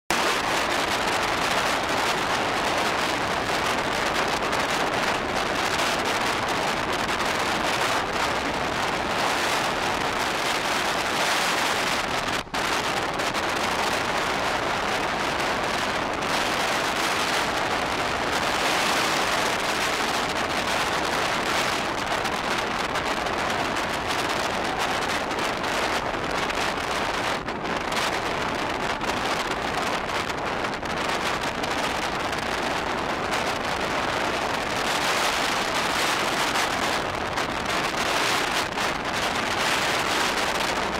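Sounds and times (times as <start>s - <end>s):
wind rushing: 0.1s - 40.9s.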